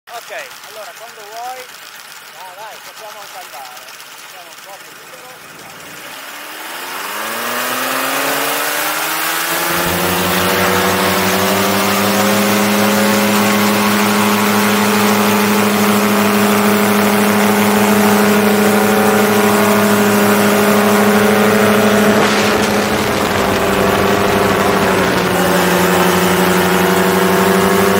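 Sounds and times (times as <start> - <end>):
paramotor engine and propeller: 0.1 - 27.9.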